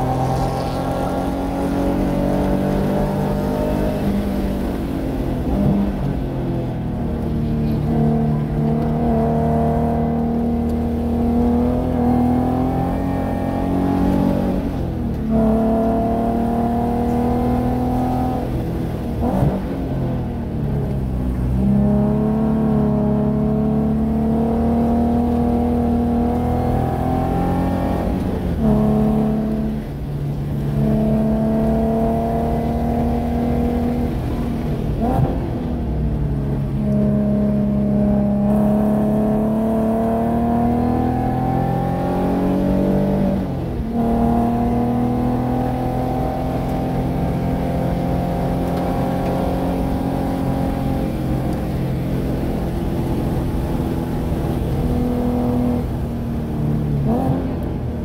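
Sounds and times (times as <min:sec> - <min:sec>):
car engine revving hard: 0:00.0 - 0:06.1, 0:07.3 - 0:19.8, 0:21.3 - 0:35.6, 0:36.5 - 0:56.0, 0:56.6 - 0:57.7.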